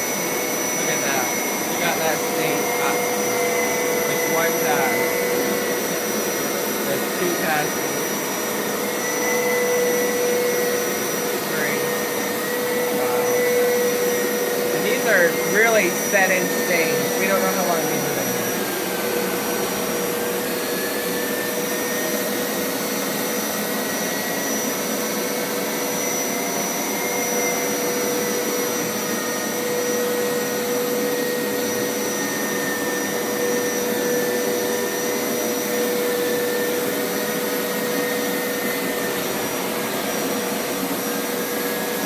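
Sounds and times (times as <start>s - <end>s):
carpet washer motor whining: 0.0s - 42.0s.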